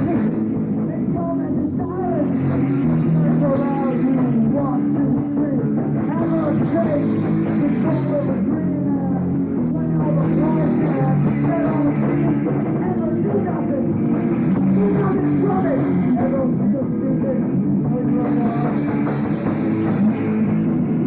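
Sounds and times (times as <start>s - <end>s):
punk rock band playing: 0.0s - 21.0s.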